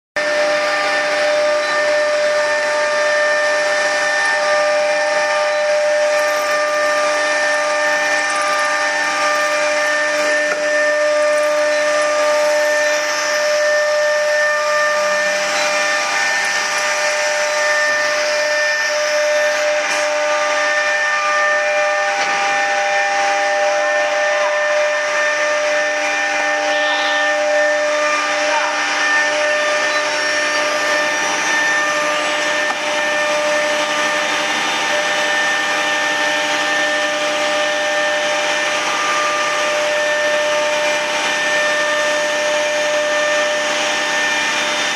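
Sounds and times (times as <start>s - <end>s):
router spindle whining: 0.2s - 44.9s.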